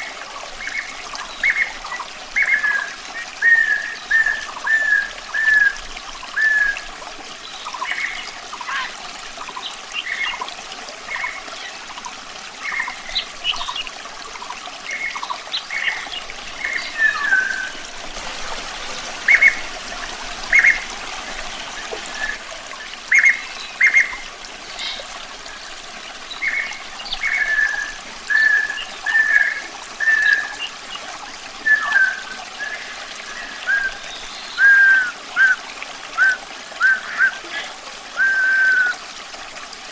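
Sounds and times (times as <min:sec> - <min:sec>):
songbird singing: 0:00.0 - 0:08.9, 0:14.9 - 0:18.0, 0:18.7 - 0:39.0
stream trickling: 0:00.0 - 0:39.9.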